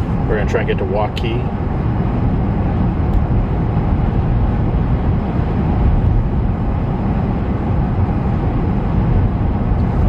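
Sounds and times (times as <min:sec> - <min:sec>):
engine drone: 0:00.0 - 0:10.0
tyre and road noise: 0:00.0 - 0:10.0.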